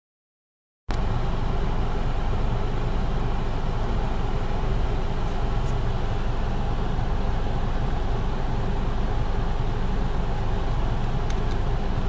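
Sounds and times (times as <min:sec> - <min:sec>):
car idling: 0:00.9 - 0:12.0.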